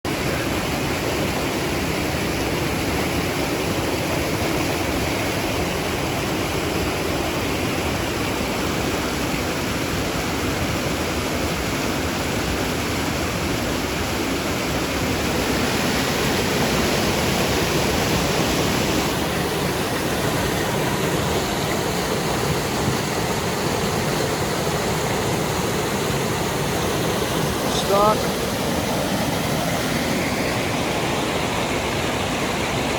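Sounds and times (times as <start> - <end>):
rushing floodwater roar: 0.1 - 32.9.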